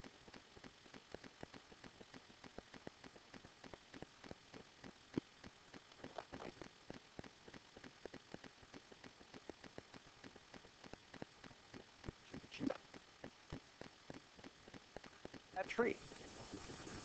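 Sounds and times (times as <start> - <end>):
faint crackling clicks: 0.0 - 17.0
low hiss: 0.0 - 17.0.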